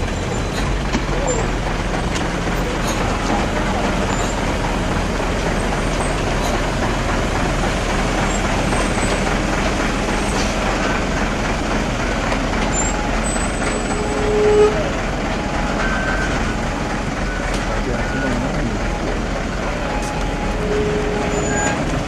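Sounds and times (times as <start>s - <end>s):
heavy truck running: 0.0s - 22.0s.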